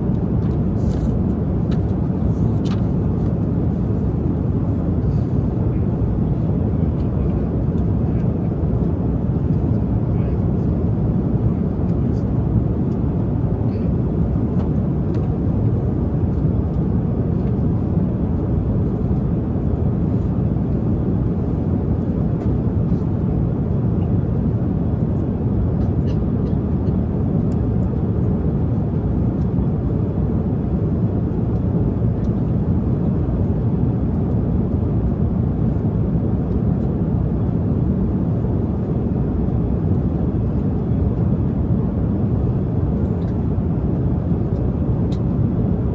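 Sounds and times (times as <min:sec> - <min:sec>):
airliner cabin engine roar: 0:00.0 - 0:45.9.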